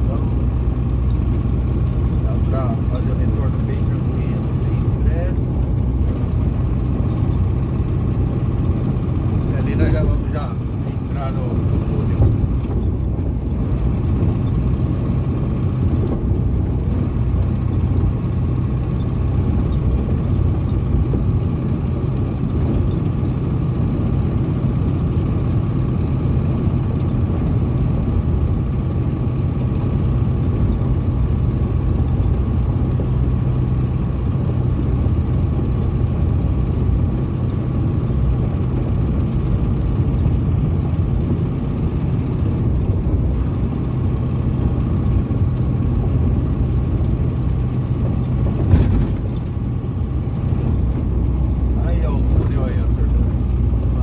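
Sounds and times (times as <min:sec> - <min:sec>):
diesel truck engine running: 0:00.0 - 0:54.0
road noise: 0:00.0 - 0:54.0.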